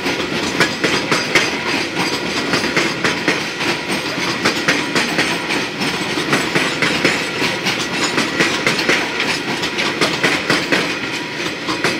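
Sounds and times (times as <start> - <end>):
train rumble: 0.0 - 11.9
train wheels clacking over rail joints: 0.0 - 11.9.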